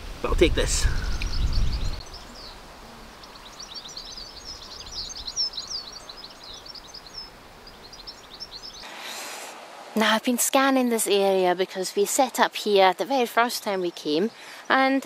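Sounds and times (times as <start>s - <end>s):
small birds twittering: 0.2s - 9.5s, 10.5s - 15.0s.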